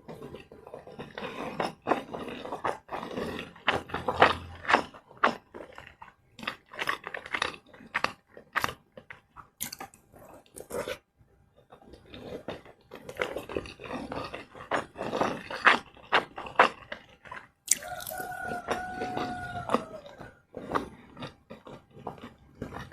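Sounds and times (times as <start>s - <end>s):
person chewing crunchy food: 0.0s - 22.9s.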